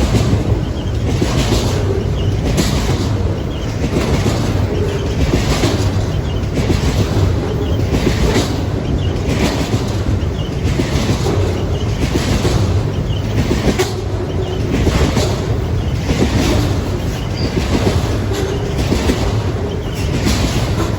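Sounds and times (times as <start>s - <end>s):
train rumble: 0.0s - 20.9s
train wheels clattering on rails: 0.0s - 20.9s.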